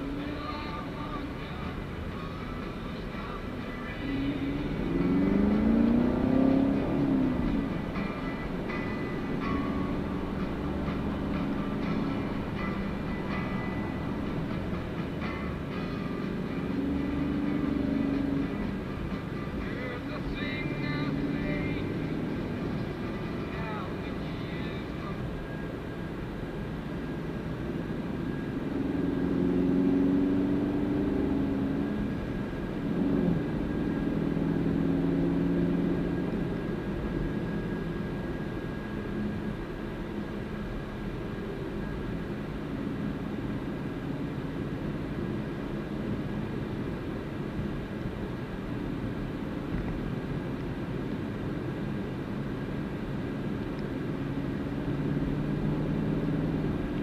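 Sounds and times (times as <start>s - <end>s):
car engine: 0.0s - 57.0s
road noise: 0.0s - 57.0s.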